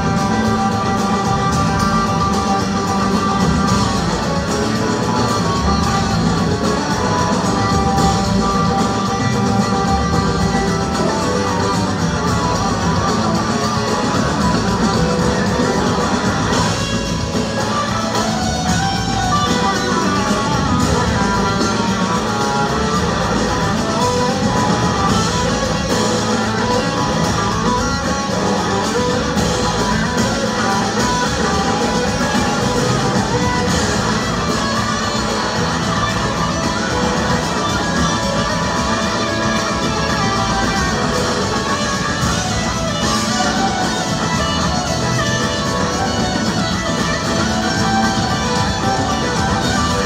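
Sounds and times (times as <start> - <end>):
electric guitars: 0.0 - 50.0
live rock band playing: 0.0 - 50.0.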